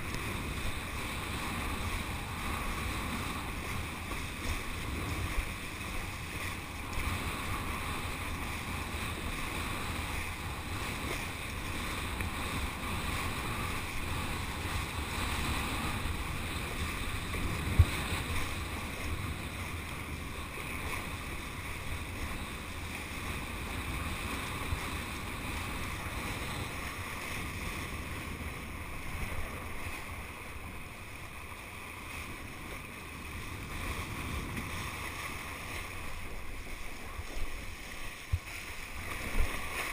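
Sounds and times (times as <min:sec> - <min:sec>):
water streaming under board: 0:00.0 - 0:39.9
wind on microphone: 0:00.0 - 0:39.9.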